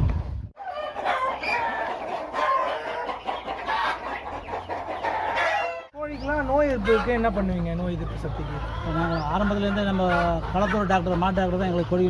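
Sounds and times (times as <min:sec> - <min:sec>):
chickens clucking: 0:00.6 - 0:12.0.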